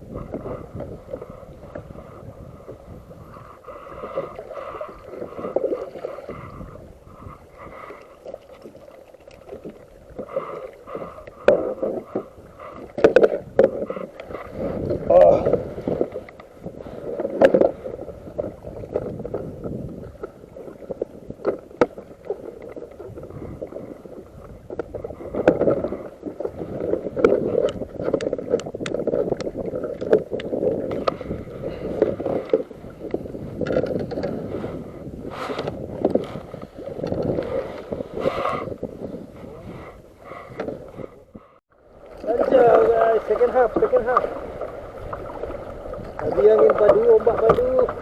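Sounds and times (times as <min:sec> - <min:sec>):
water lapping against kayak hull: 0:00.0 - 0:48.0.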